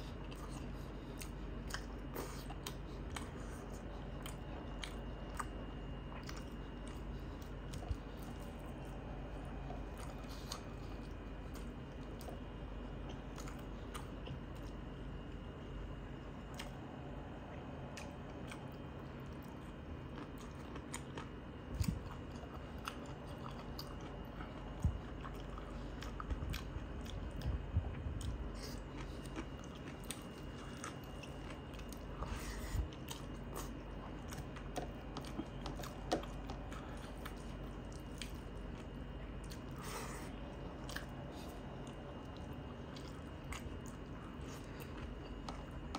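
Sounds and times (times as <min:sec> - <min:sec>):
person chewing food: 0:00.0 - 0:45.9.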